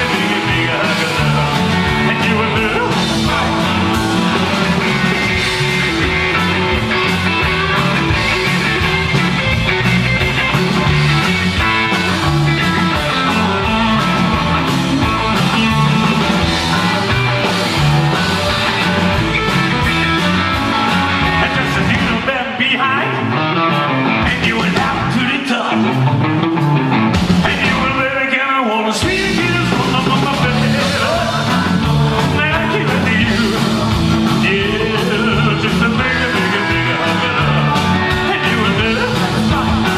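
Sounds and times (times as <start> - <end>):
electric guitar: 0.0 - 39.9
live rock band playing: 0.0 - 39.9.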